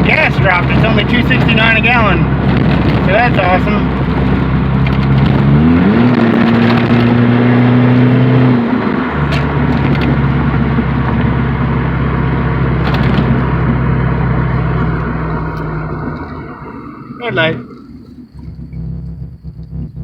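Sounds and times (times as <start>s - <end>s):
car engine without muffler: 0.0s - 20.0s.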